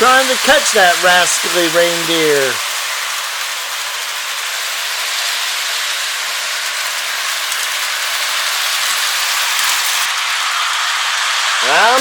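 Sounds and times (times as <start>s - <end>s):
model train hissing whir: 0.0s - 12.0s.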